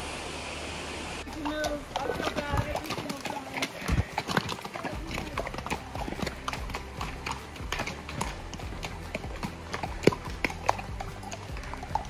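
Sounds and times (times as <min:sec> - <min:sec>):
hooves clopping on rocky trail: 0:01.2 - 0:12.0.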